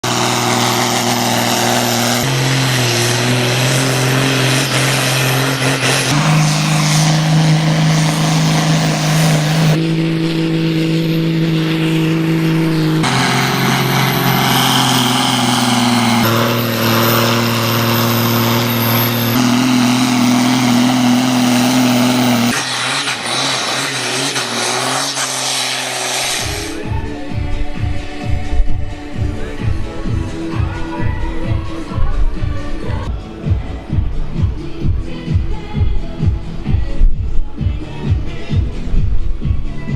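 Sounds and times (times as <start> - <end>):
tractor diesel engines under load: 0.0 - 39.9.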